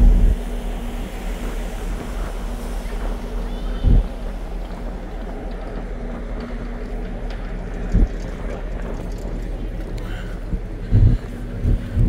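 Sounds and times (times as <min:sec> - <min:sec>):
ship engines rumbling: 0:00.0 - 0:12.0
wind thumping on microphone: 0:00.0 - 0:12.0.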